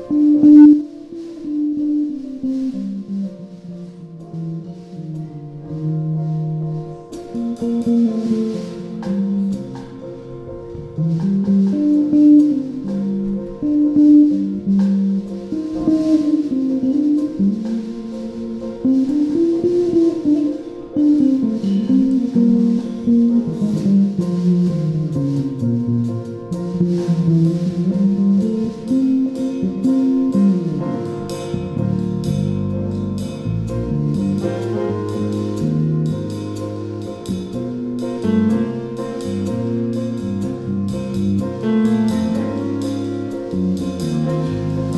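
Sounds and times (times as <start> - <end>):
drum kit with cymbal strokes: 0.0 - 44.9
grand piano: 0.0 - 44.9
jazz trio playing: 0.0 - 44.9
plucked bass line: 0.0 - 44.9.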